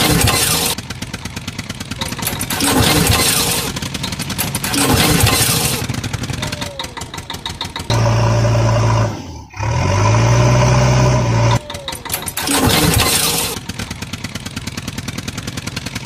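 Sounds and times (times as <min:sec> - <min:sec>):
engine chugging idle: 0:00.0 - 0:16.0
tractor engine droning: 0:00.0 - 0:16.0.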